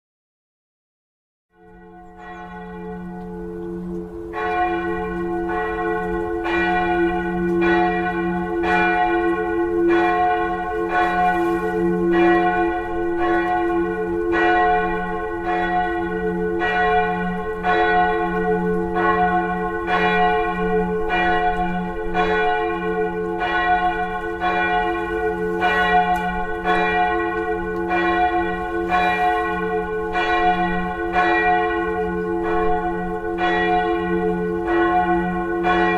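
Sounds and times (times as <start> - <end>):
church bells ringing: 1.5 - 35.9
low hum of bell tones: 1.6 - 35.9.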